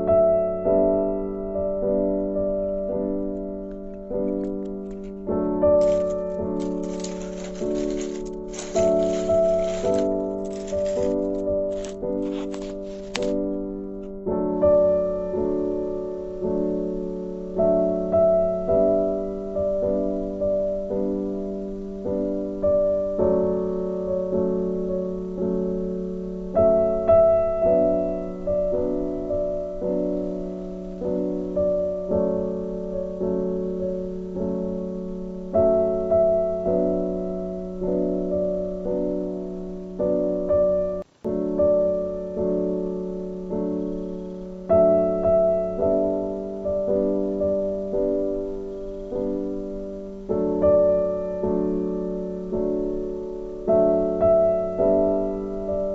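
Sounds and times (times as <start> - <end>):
gentle piano piece: 0.0 - 55.9.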